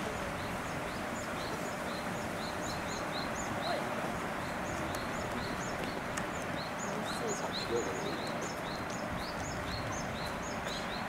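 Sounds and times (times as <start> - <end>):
outdoor hiss: 0.0 - 11.0
songbird chirping: 0.0 - 11.0.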